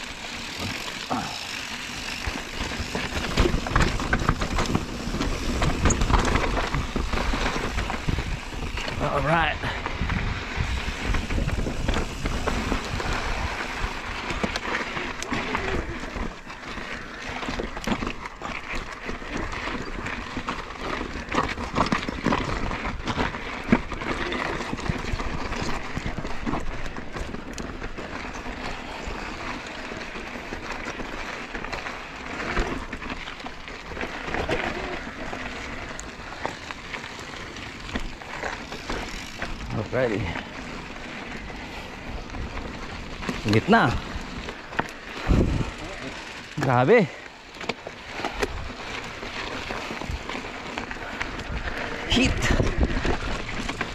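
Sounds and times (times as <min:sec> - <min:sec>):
bike rattling: 0:00.0 - 0:53.9
tyres crunching on gravel: 0:00.0 - 0:53.9.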